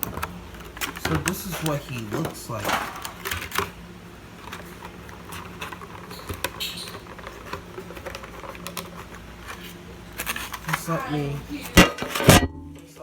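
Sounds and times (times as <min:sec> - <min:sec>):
plastic parts clicking: 0:00.0 - 0:03.8, 0:04.4 - 0:12.9
faint steady hum: 0:00.0 - 0:13.0.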